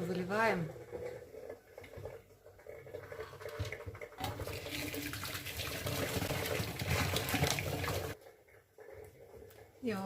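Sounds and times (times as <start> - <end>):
water splashing into sink: 0.0 - 8.2.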